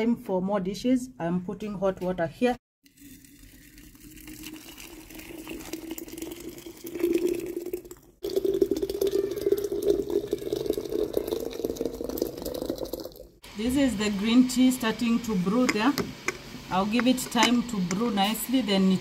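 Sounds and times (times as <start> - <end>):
hot water pouring into teapot: 2.8 - 19.0.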